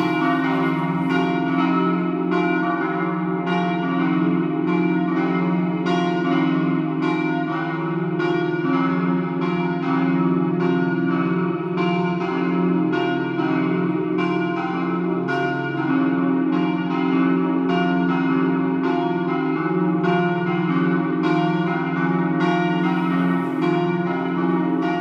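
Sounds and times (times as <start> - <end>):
church bells pealing: 0.0 - 25.0.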